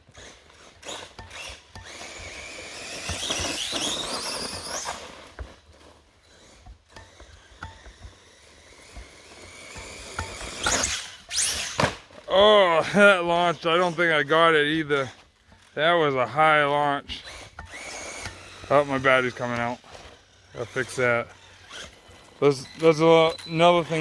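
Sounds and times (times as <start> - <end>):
electric motor whining: 0.0 - 24.0
tyre and dirt noise: 0.0 - 24.0.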